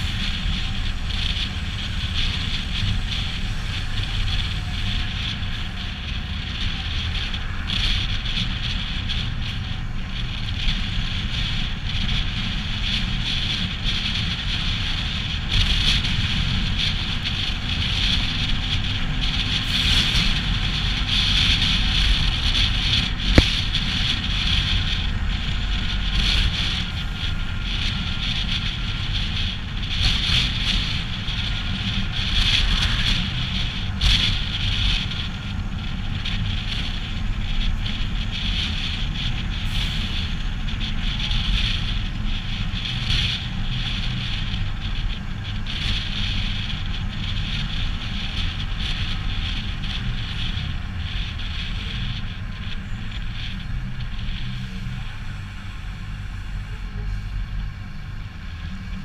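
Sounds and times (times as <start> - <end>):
truck diesel engine running: 0.0 - 59.0
wind on microphone: 0.0 - 59.0.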